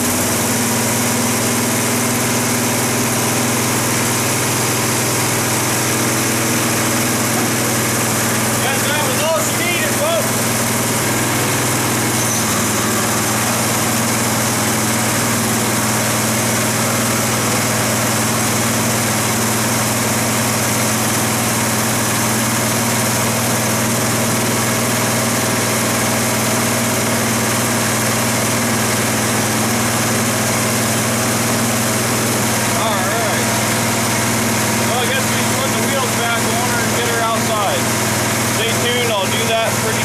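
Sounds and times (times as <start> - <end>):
small engine running steadily: 0.0 - 40.0.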